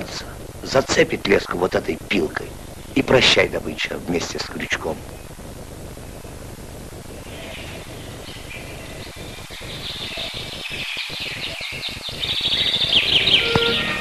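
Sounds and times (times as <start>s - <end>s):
birds chirping: 0.0s - 14.0s
film soundtrack hiss and hum: 0.0s - 14.0s.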